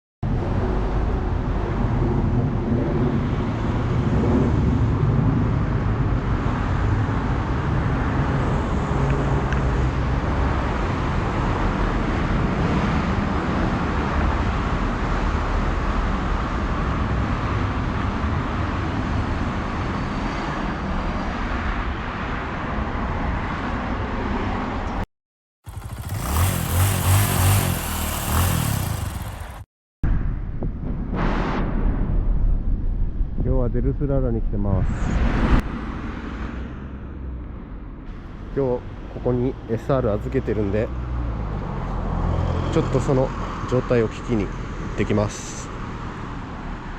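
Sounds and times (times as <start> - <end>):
vehicle engine and road noise: 0.2 - 30.2, 34.7 - 46.9.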